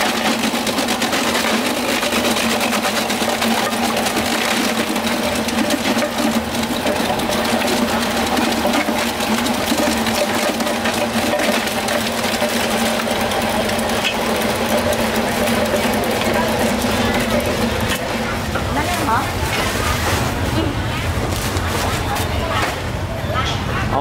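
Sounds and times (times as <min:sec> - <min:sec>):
busy background noise: 0:01.4 - 0:24.0.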